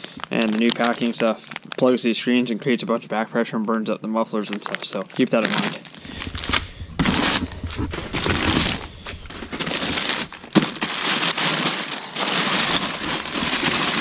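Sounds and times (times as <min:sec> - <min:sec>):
packing paper rustling and crinkling: 0:00.0 - 0:02.5, 0:04.3 - 0:14.0.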